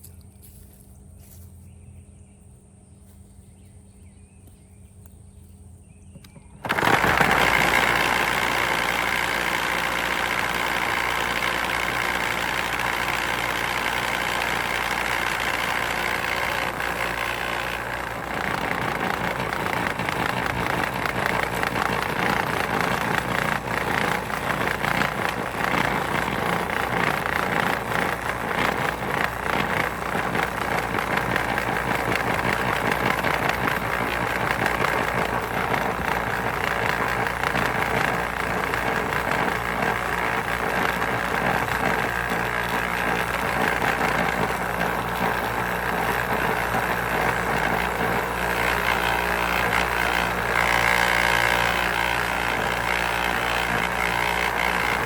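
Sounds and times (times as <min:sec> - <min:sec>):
compost sifter mechanical drone: 0:00.0 - 0:55.0.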